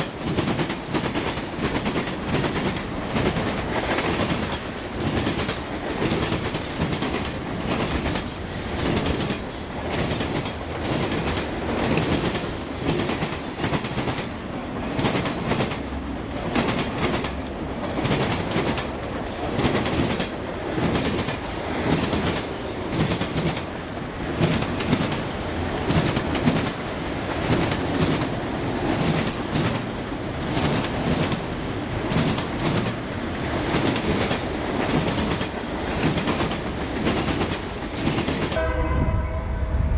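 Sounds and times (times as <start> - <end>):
train wheels clicking over rail joints: 0.0 - 38.6.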